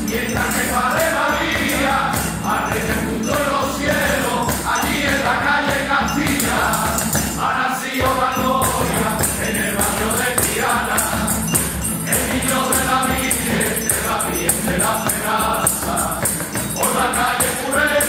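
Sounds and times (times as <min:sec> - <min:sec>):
men's choir singing: 0:00.0 - 0:18.0
strummed acoustic guitars: 0:00.0 - 0:18.0
tambourine jingling: 0:00.0 - 0:18.0.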